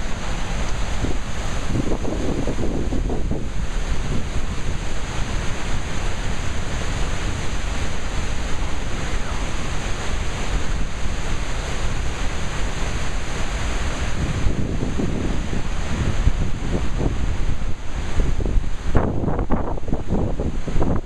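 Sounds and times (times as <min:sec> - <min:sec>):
waterfall rushing: 0:00.0 - 0:21.0
wind buffeting microphone: 0:00.0 - 0:21.0.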